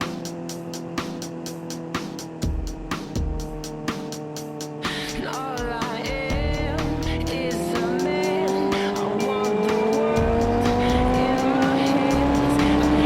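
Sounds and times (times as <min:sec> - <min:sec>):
motorcycle engine revving: 0:00.0 - 0:13.0
song playing: 0:00.0 - 0:13.0.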